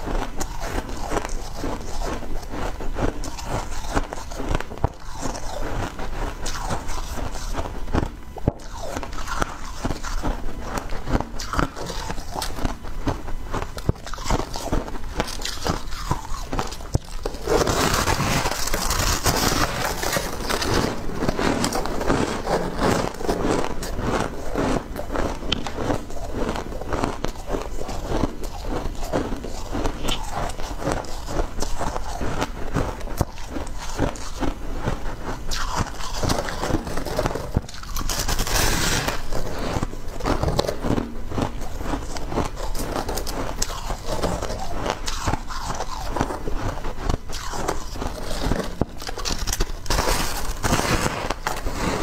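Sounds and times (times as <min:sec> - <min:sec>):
ice being crunched and chewed: 0:00.0 - 0:52.0.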